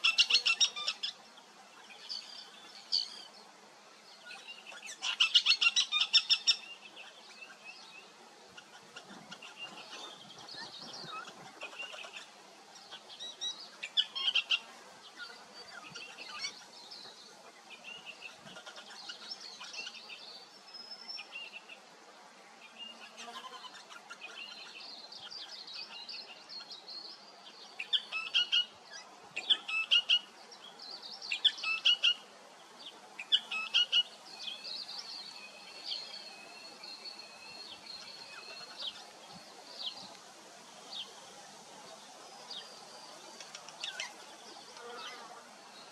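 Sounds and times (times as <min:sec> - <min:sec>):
wild birds chirping: 0:00.0 - 0:45.9.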